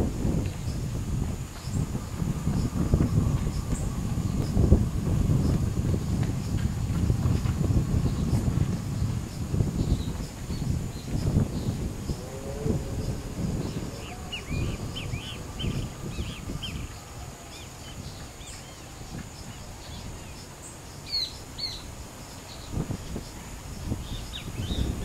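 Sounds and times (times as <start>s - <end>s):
wind on microphone: 0.0s - 25.0s
birds chirping: 1.6s - 25.0s.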